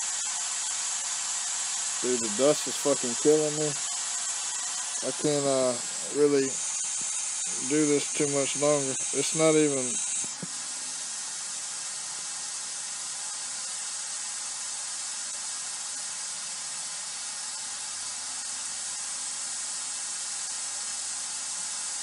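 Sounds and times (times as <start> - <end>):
white noise hiss: 0.0 - 22.0.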